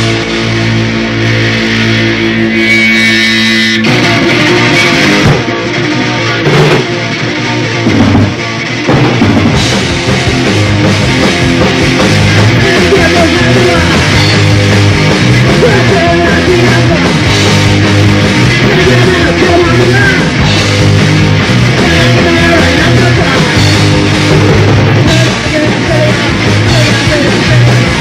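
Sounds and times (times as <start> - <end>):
punk rock song: 0.0 - 28.0.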